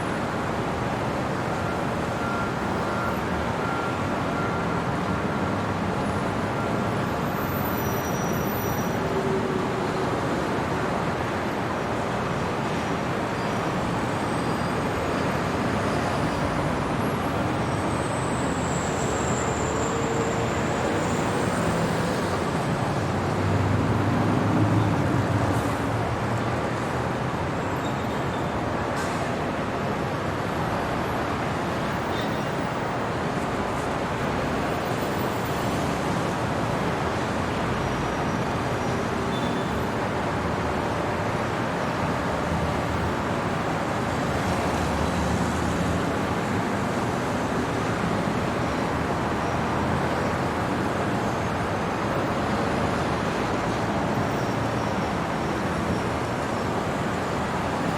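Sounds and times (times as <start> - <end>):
city traffic rumble: 0.0 - 57.9.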